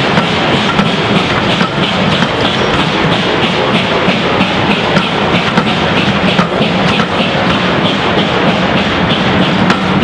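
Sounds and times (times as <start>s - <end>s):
train wheels rumbling on rail: 0.0s - 10.0s
wheels clicking over rail joints: 0.0s - 10.0s.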